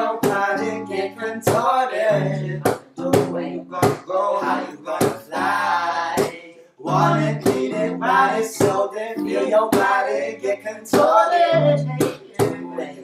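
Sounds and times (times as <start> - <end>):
strummed acoustic guitar: 0.0 - 5.8, 6.9 - 13.0
person singing: 0.0 - 13.0.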